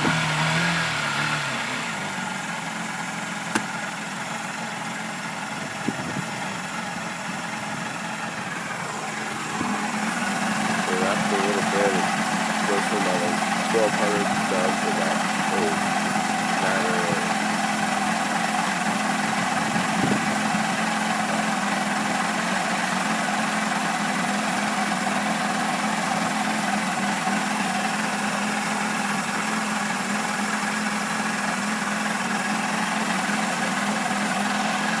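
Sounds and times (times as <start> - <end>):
outboard motor running roughly: 0.0 - 35.0.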